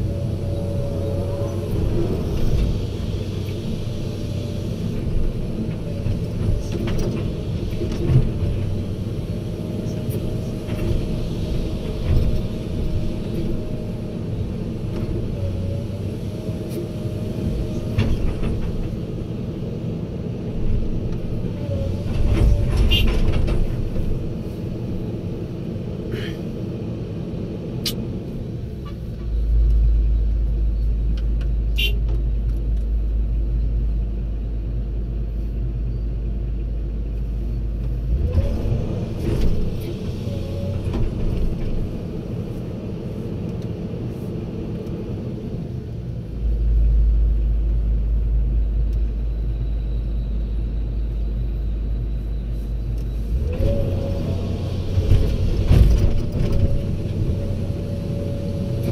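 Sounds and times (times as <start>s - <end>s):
heavy diesel machinery running: 0.0s - 58.9s.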